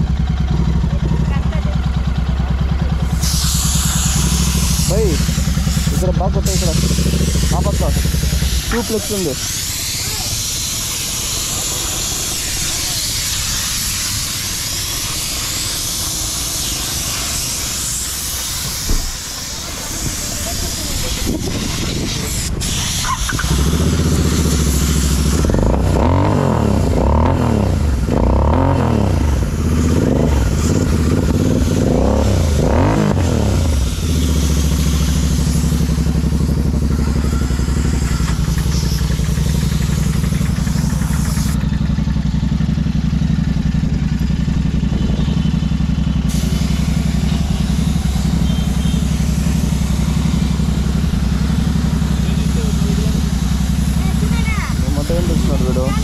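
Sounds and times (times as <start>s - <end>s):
motorcycle engine revving and idling: 0.0s - 56.0s.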